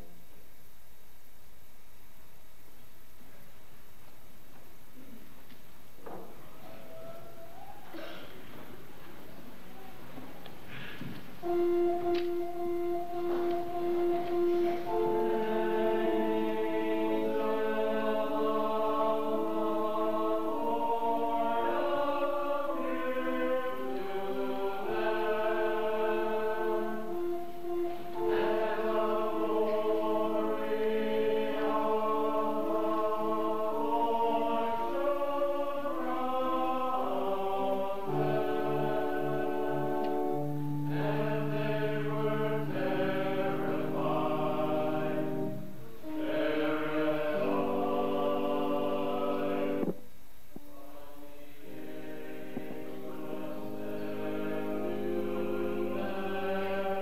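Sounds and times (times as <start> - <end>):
choir singing a hymn: 10.7 - 50.0, 50.6 - 57.0.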